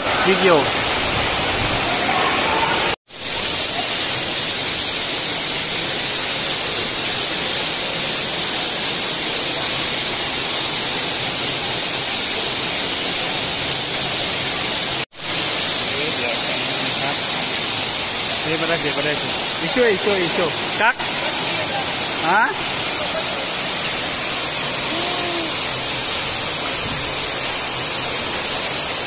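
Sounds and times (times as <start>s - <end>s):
waterfall rushing onto rock: 0.0s - 29.0s.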